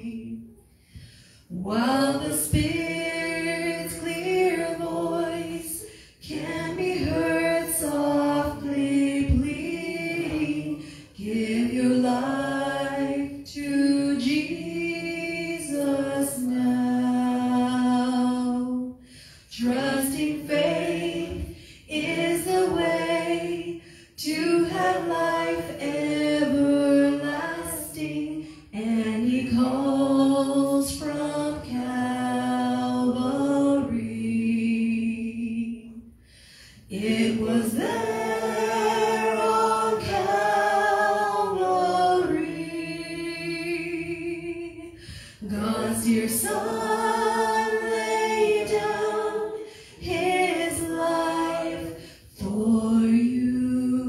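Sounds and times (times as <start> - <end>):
woman singing a hymn: 0.0 - 0.5, 1.5 - 36.1, 36.9 - 54.0.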